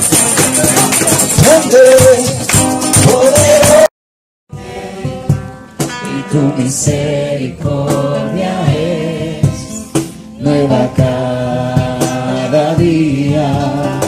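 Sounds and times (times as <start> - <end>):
instrumental accompaniment: 0.0 - 3.9, 4.5 - 14.0
group singing a worship song: 0.1 - 3.9, 4.5 - 14.0.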